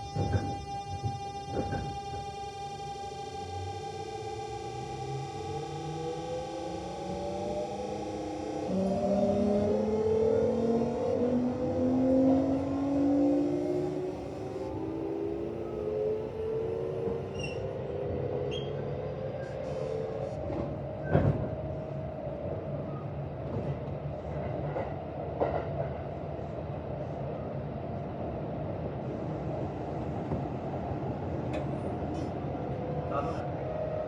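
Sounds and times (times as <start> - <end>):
train wheels rumbling on rail: 0.0 - 3.2, 8.0 - 34.0
electric train inverter whine: 0.0 - 34.0.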